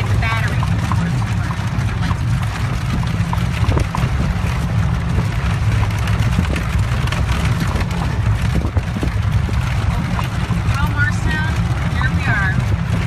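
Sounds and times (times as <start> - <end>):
horse hooves clopping: 0.0 - 13.0
wheels rumbling: 0.0 - 13.0.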